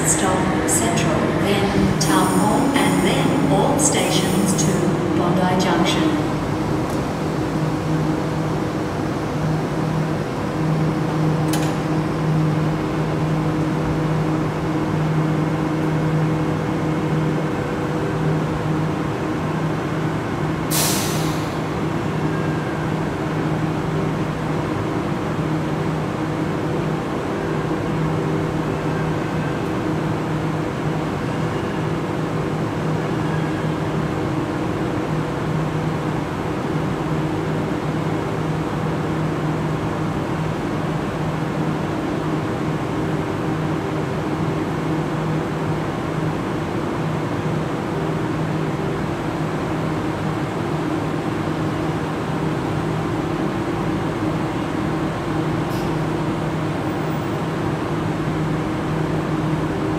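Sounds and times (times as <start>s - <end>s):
train equipment humming: 0.0s - 59.9s.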